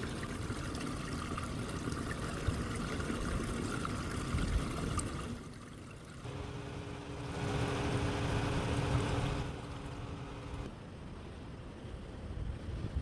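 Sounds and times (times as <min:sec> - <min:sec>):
water trickling through culvert: 0:00.0 - 0:10.7
low steady hum: 0:00.0 - 0:12.9.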